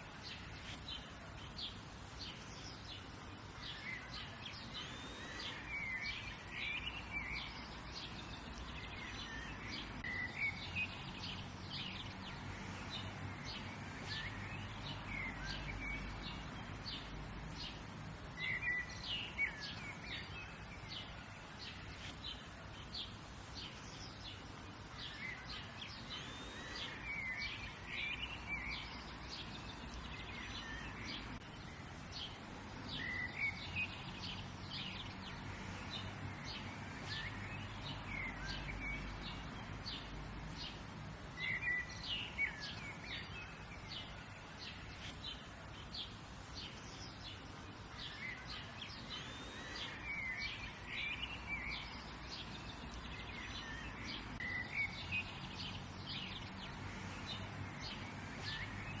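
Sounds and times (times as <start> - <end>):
birds chirping and calling: 0.0 - 17.8, 18.4 - 40.8, 41.4 - 59.0.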